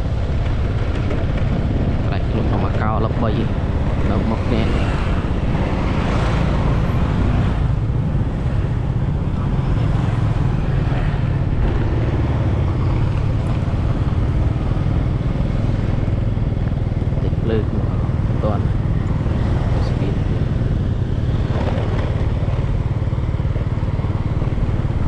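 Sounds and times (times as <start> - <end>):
vehicle rumble: 0.0 - 25.0
wind noise: 0.0 - 25.0.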